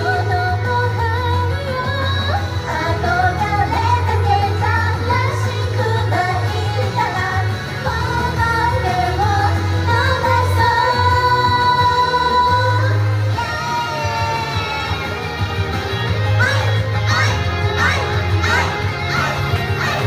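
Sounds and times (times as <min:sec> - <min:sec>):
pulsing bass: 0:00.0 - 0:20.0
woman singing pop song: 0:00.0 - 0:20.0.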